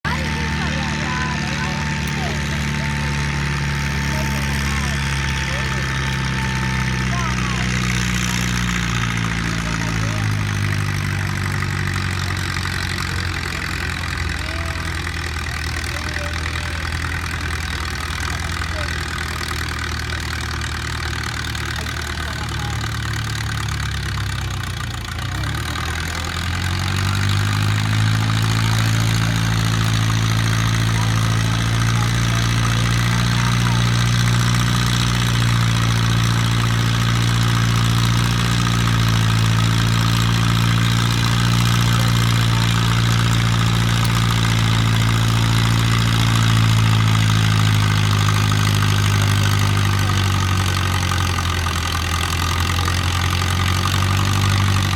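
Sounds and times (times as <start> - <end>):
tractor engine revving: 0.0 - 54.9.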